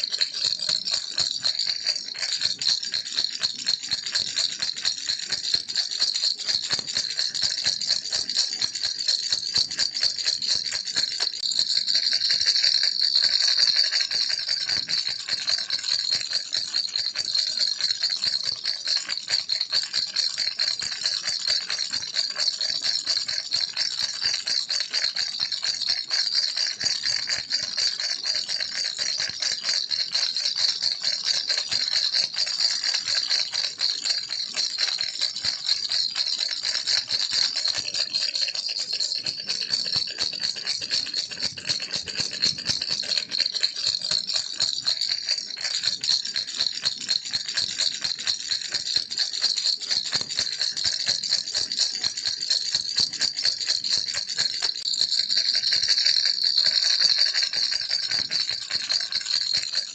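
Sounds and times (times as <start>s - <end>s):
toy rattle shaken: 0.0s - 59.9s.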